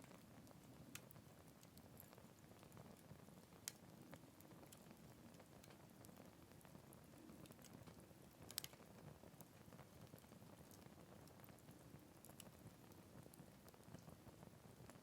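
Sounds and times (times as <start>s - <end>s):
campfire crackles and pops: 0.0s - 15.0s
soft rustle of flame: 0.0s - 15.0s.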